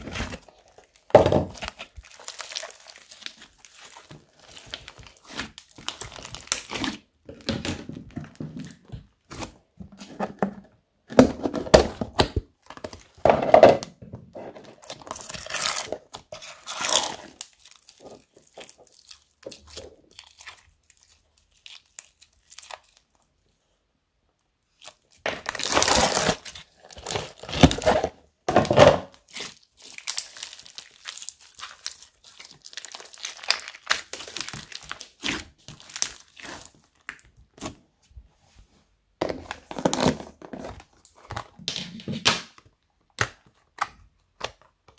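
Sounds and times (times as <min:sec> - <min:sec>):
wet slime crackling and squelching: 0:00.0 - 0:09.8, 0:12.2 - 0:23.8, 0:24.4 - 0:38.0, 0:39.2 - 0:44.9
plastic containers handled: 0:00.0 - 0:18.8, 0:25.2 - 0:31.2, 0:32.0 - 0:37.9, 0:39.2 - 0:44.9.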